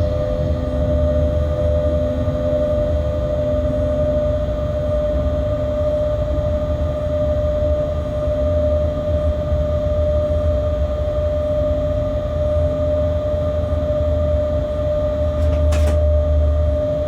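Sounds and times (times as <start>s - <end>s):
locomotive cab deep rumble: 0.0s - 7.7s, 8.9s - 17.0s
mid-pitched hum: 0.0s - 17.0s.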